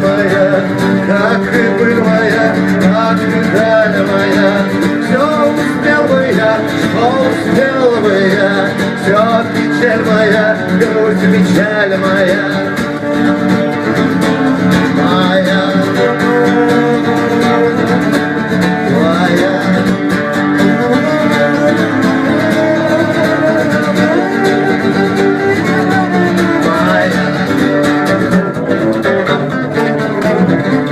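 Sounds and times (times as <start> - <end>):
acoustic guitar music: 0.0 - 30.9.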